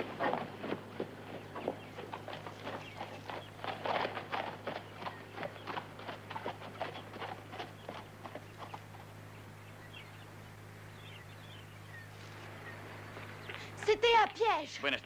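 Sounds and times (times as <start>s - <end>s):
horse hooves on dirt trail: 0.0s - 14.7s
steady low hum: 0.0s - 15.0s.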